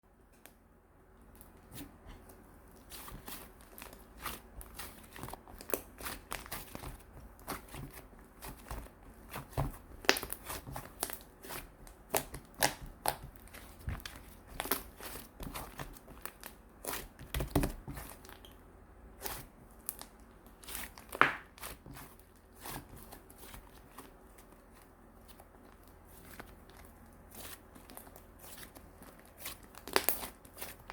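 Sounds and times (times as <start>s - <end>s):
slime squished by hand: 1.4s - 18.5s, 19.2s - 30.9s.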